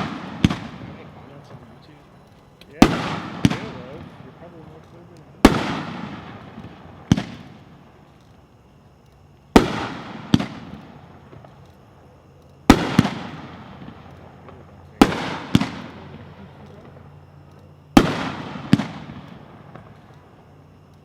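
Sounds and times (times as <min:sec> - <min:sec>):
fireworks booms with echo: 0:00.0 - 0:08.5, 0:09.5 - 0:11.7, 0:12.6 - 0:20.5.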